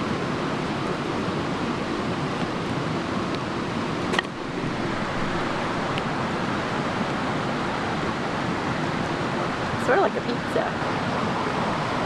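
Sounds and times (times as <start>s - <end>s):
creek rushing over boulders: 0.0s - 12.0s.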